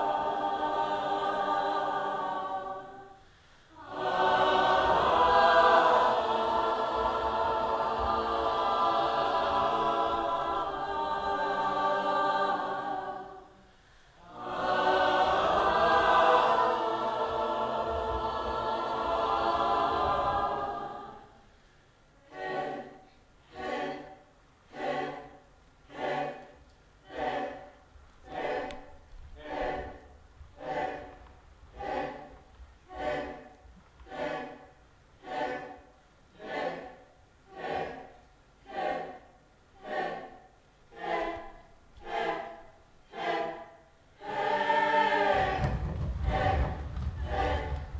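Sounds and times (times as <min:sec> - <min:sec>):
choir singing: 0:00.0 - 0:21.6, 0:22.2 - 0:47.9.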